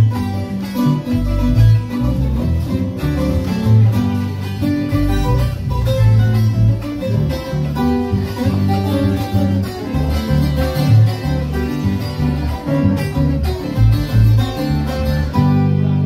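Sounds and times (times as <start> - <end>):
electric bass: 0.0 - 16.0
plucked string melody: 0.0 - 16.0
strummed string accompaniment: 0.0 - 16.0.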